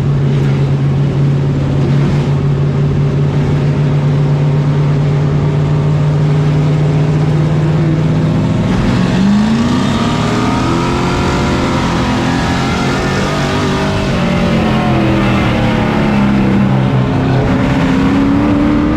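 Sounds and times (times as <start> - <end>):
truck engine accelerating: 0.0 - 18.9.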